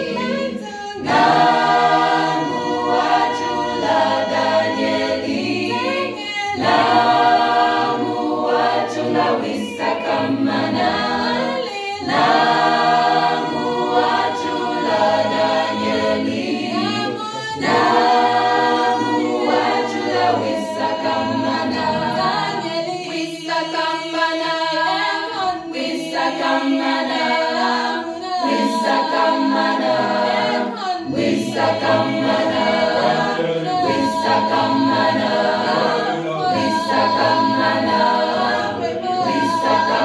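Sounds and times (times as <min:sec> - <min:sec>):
choir singing a cappella: 0:00.0 - 0:40.0.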